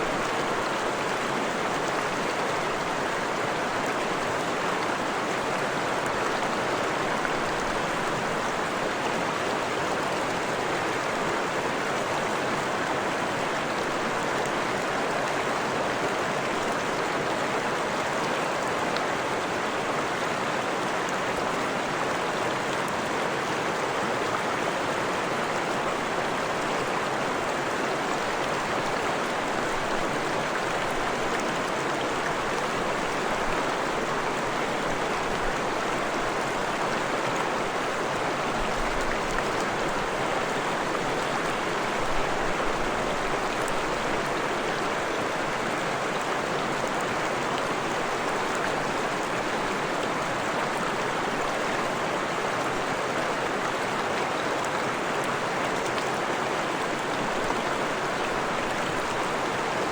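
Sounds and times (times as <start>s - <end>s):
stream water rushing and splashing: 0.0s - 59.9s.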